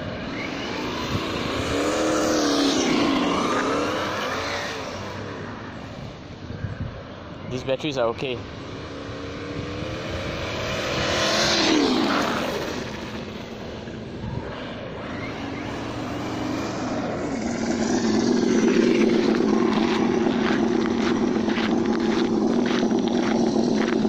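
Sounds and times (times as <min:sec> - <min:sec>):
simulated engine sound: 0:00.0 - 0:06.4, 0:07.3 - 0:24.0.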